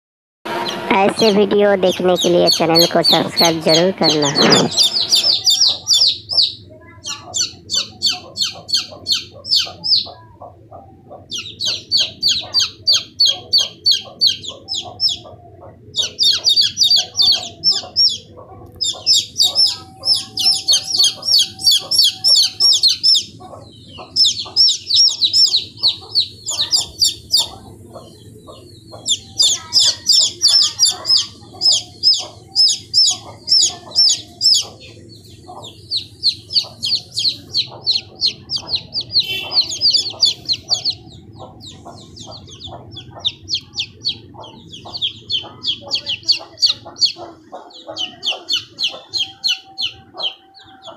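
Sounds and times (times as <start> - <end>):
baby chicks peeping: 0.5 - 50.9.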